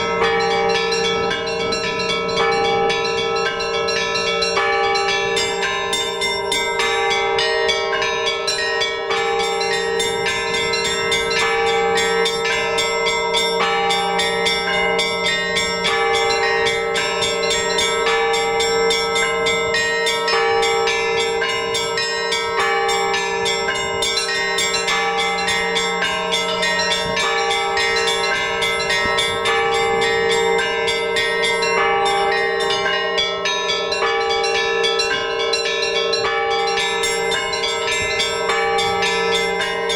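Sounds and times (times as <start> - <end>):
large deep bells ringing: 0.0 - 39.9
small high bells striking: 0.0 - 39.9.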